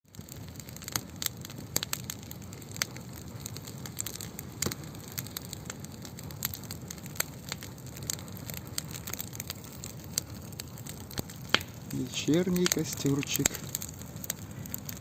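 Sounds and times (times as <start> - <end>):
campfire crackling and popping: 0.0 - 15.0
fire hissing: 0.0 - 15.0.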